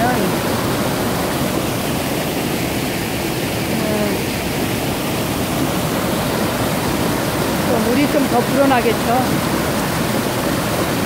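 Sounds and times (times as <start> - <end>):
stream rushing over cascade: 0.0 - 11.0.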